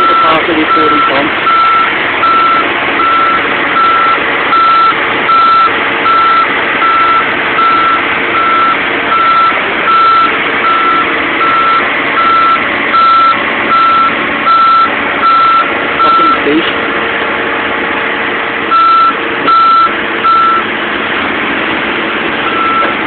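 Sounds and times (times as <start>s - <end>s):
reversing alarm beeping: 0.0s - 16.5s, 18.7s - 20.7s, 22.4s - 23.0s
machinery running: 0.0s - 23.0s.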